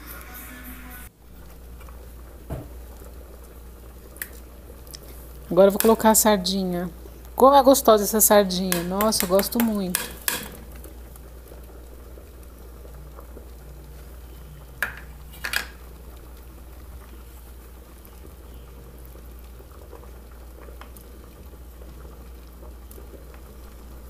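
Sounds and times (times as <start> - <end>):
pots bubbling on stove: 1.0 - 24.0.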